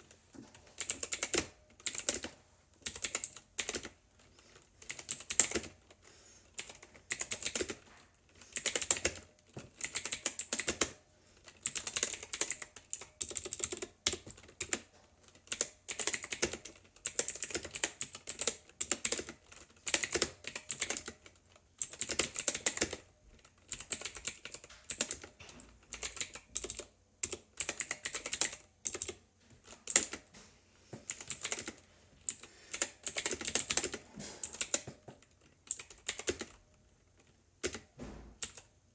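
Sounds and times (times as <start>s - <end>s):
clicky mechanical keyboard typing: 0.8s - 6.0s, 6.6s - 30.3s, 31.1s - 36.6s, 37.2s - 38.7s.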